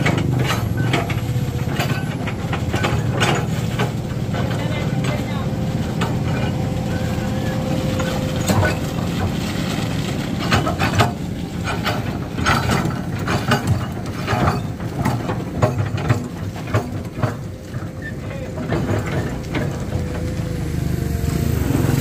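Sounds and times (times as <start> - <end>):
mechanical clanks and rattles: 0.0 - 20.7
heavy vehicle engine running: 0.0 - 22.0.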